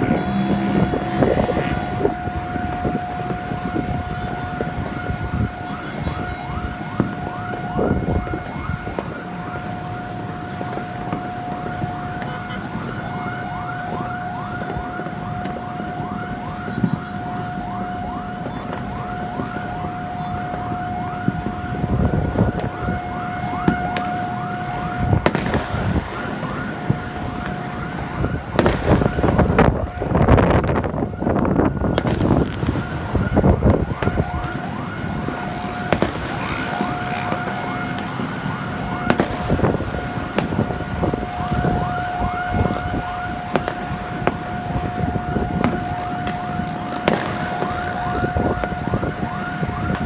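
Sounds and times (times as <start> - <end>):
fireworks bangs and crackling: 0.0 - 50.0
siren-like whooping: 0.0 - 50.0.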